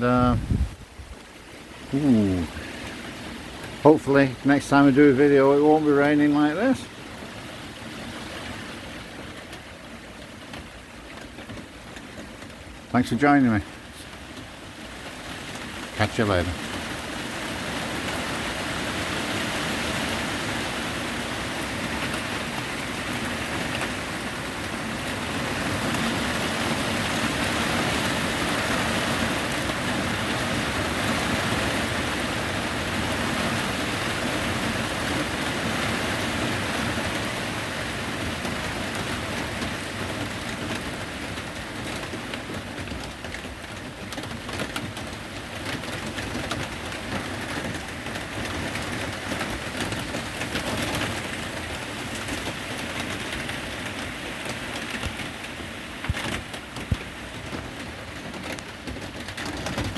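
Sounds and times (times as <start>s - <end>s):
heavy rain falling: 0.0s - 59.9s
raindrops ticking close by: 0.0s - 59.9s.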